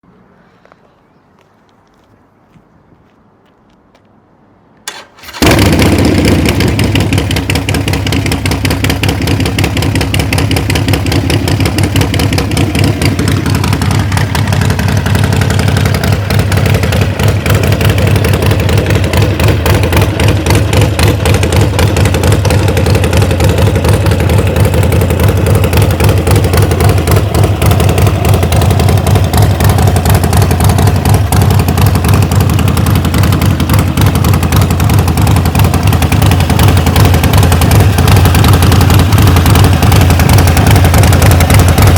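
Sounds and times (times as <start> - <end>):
motorcycle engine starting and idling: 4.8 - 41.9.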